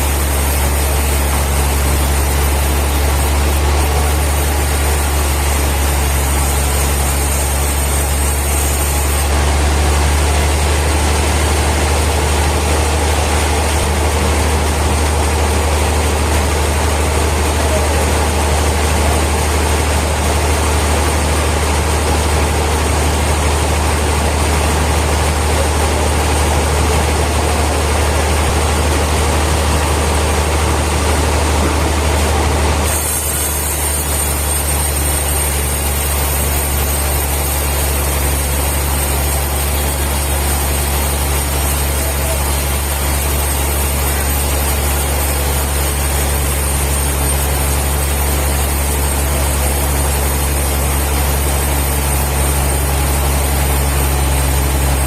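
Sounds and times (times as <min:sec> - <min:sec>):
sawmill machinery drone and hiss: 0:00.0 - 0:55.0.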